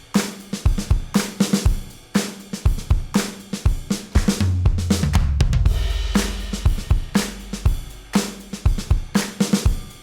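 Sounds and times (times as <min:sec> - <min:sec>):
drum kit groove: 0:00.0 - 0:10.0.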